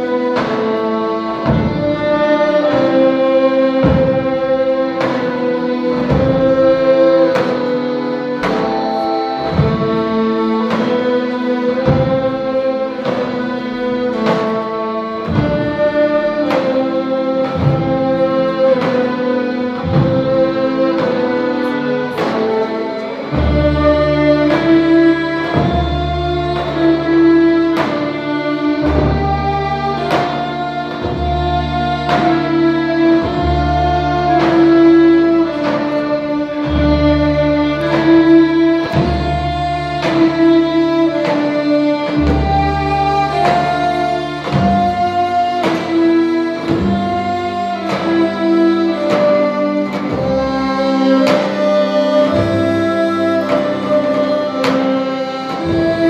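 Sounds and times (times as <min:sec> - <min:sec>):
drum strokes: 0:00.0 - 0:56.0
folk dance melody: 0:00.0 - 0:56.0.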